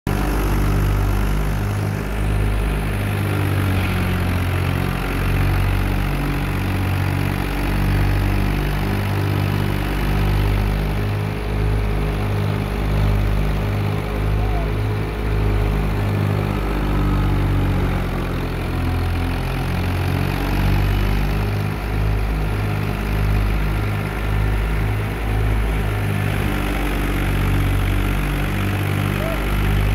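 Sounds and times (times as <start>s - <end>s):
thresher machine drone: 0.1s - 29.9s.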